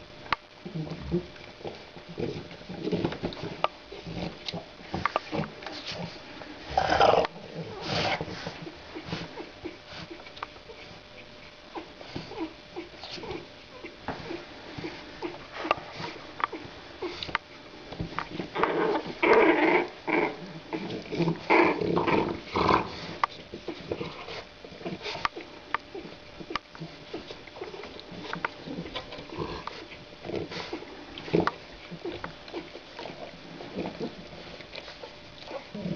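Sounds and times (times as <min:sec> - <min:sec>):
puppies play-growling: 0:00.6 - 0:35.9.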